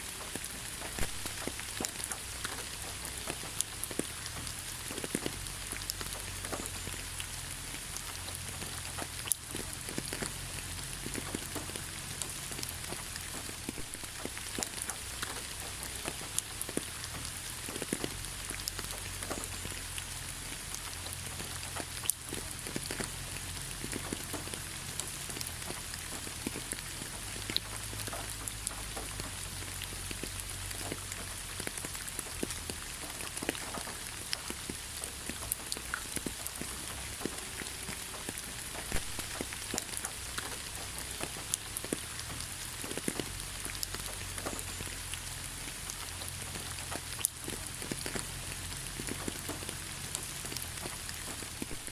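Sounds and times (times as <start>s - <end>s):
raindrops pattering on leaves: 0.0s - 51.9s
steady rain hiss: 0.0s - 51.9s.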